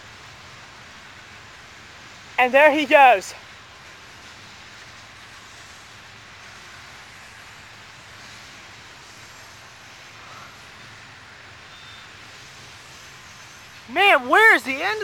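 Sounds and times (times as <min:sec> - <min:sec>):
freight train rolling past: 0:00.1 - 0:15.0.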